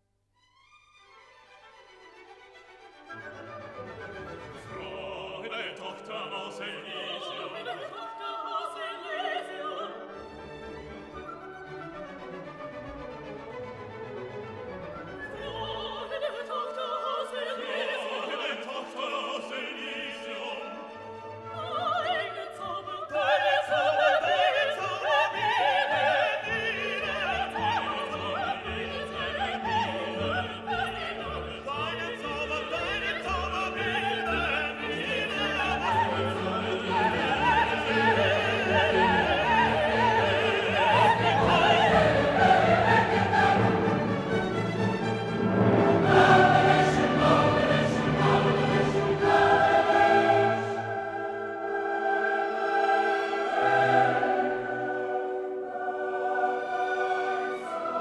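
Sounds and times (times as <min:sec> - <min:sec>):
orchestra playing: 0:00.7 - 0:16.5, 0:24.3 - 0:58.0
operatic singing: 0:02.4 - 0:58.0.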